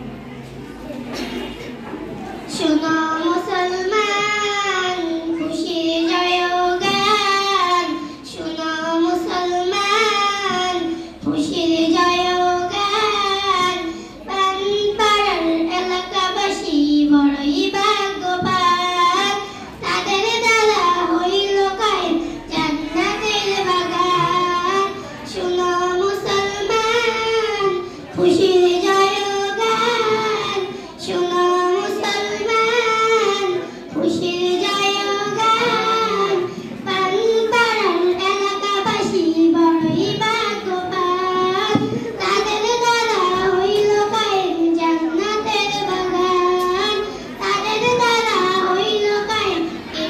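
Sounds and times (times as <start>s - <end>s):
girl singing into a microphone: 2.5s - 50.0s.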